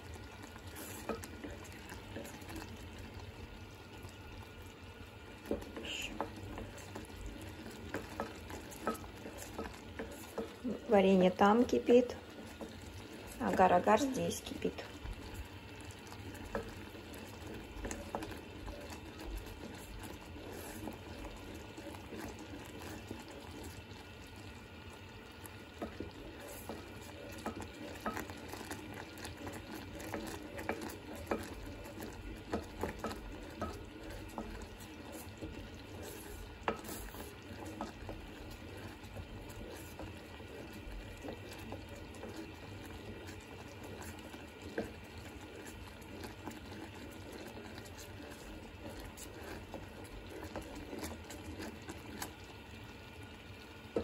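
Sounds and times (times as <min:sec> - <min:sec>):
liquid boiling in a saucepan: 0:00.0 - 0:54.0
wooden spoon stirring: 0:00.0 - 0:54.0.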